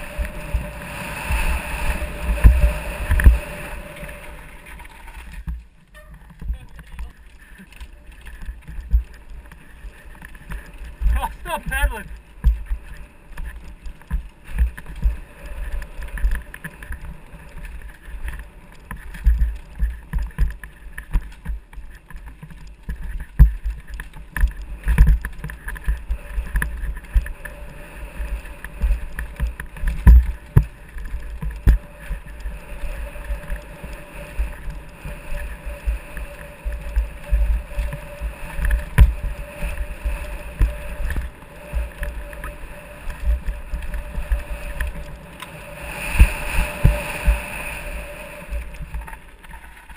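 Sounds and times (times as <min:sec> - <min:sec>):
bike tyre rumble on dirt: 0:00.0 - 0:49.9
wind: 0:00.0 - 0:49.9.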